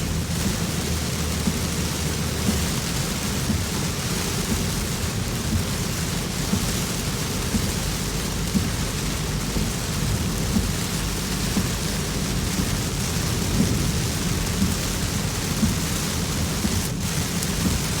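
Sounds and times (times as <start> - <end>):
heavy rain hissing: 0.0 - 18.0
low rumble: 0.0 - 18.0.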